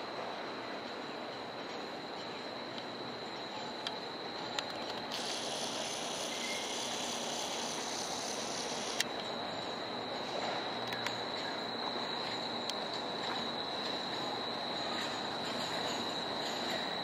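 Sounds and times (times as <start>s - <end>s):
high hiss with thin tones: 0.0s - 17.0s
street ambience: 0.0s - 17.0s
streetcar approaching with whine: 0.0s - 17.0s.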